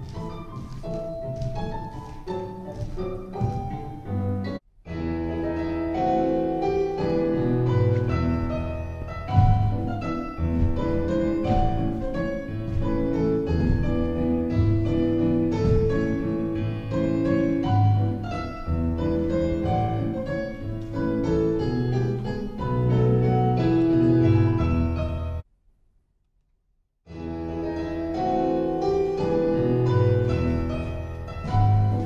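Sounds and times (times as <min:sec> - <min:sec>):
solo piano playing: 0:00.0 - 0:25.4, 0:27.1 - 0:32.0.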